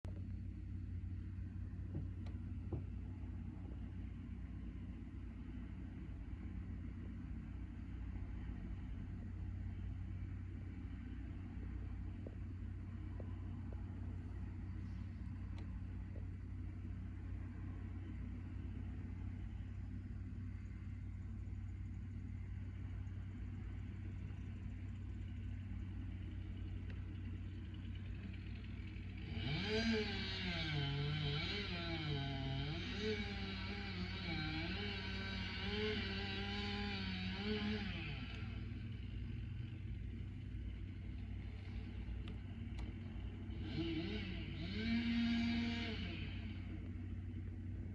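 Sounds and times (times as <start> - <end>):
engine droning: 0.0 - 47.9.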